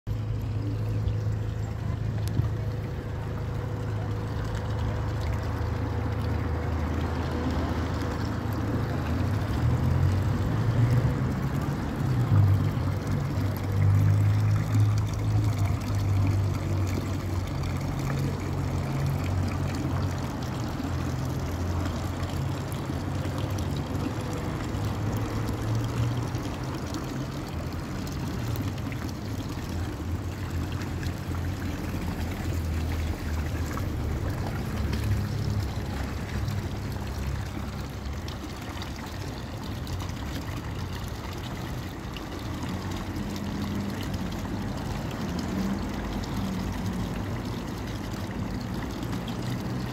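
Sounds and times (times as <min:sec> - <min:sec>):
water trickling into fountain basin: 0:00.1 - 0:49.9.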